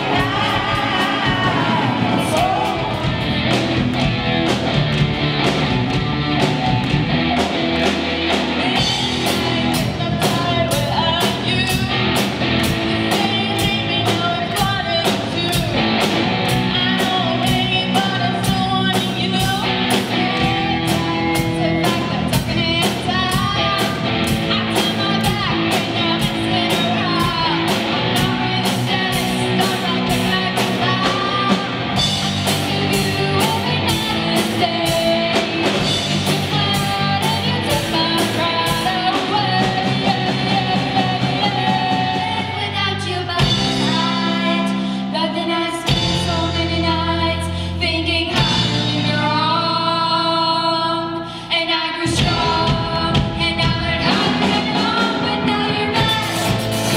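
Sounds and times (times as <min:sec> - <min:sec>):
women singing: 0:00.0 - 0:03.4, 0:08.4 - 0:56.9
drum kit beat: 0:00.0 - 0:44.4, 0:52.0 - 0:56.9
electric guitars: 0:00.0 - 0:56.9.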